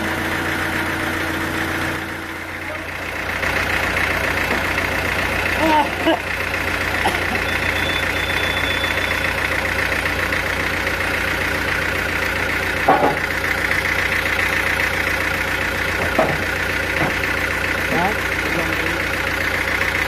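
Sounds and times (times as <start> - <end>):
sawmill machinery droning: 0.0 - 20.0.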